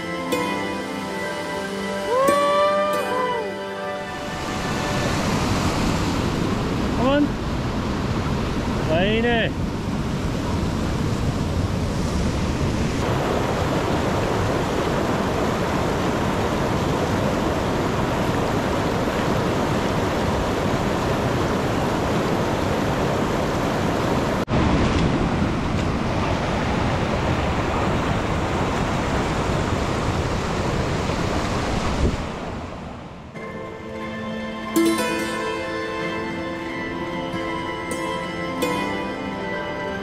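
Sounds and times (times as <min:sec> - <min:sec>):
waterfall rushing: 0:00.0 - 0:09.6, 0:10.4 - 0:40.0.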